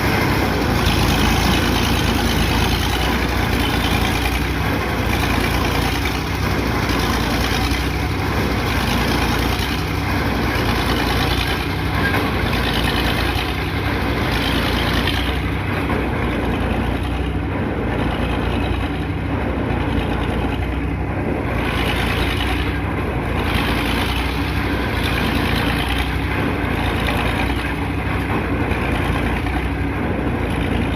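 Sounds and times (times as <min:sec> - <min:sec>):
heavy diesel engine running: 0:00.0 - 0:30.9.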